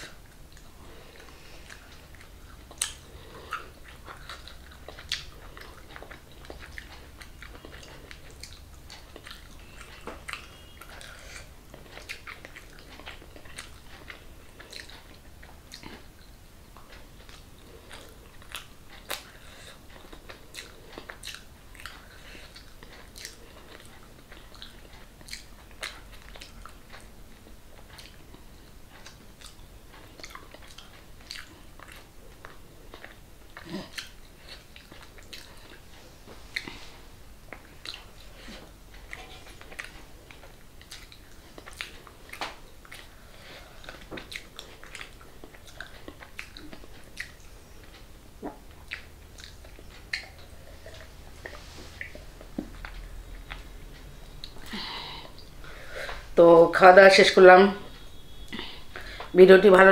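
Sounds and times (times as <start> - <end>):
person biting and chewing food: 0.0 - 56.3.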